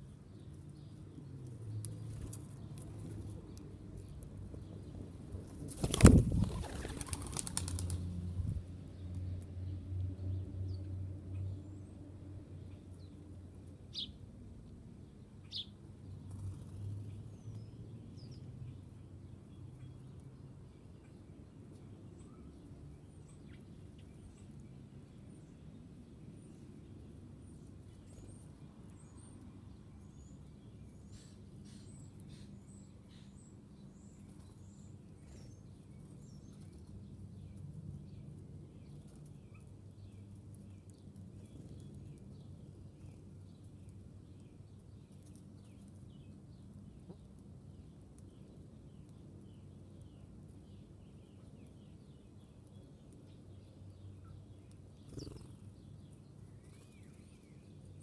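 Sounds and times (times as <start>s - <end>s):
birds chirping: 0.0s - 9.4s, 15.1s - 58.0s.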